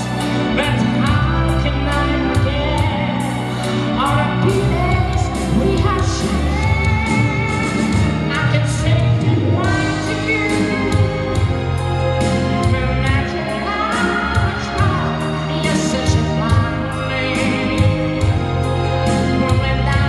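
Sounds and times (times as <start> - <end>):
man singing into a microphone: 0.0 - 11.4, 12.3 - 18.2, 19.1 - 20.0
amplified backing music: 0.0 - 20.0.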